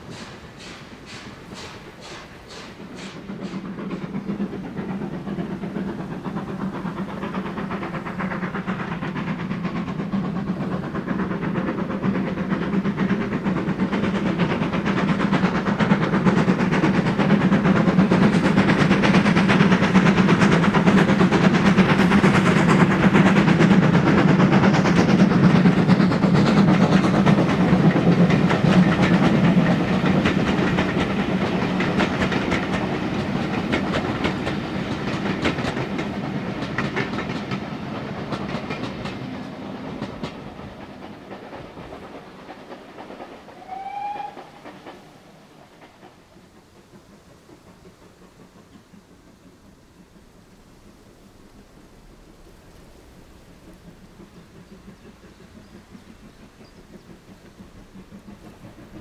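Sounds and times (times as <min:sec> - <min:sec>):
coaches clickety-clack on rails: 0:00.0 - 0:59.0
steam locomotive passing: 0:00.0 - 0:59.0.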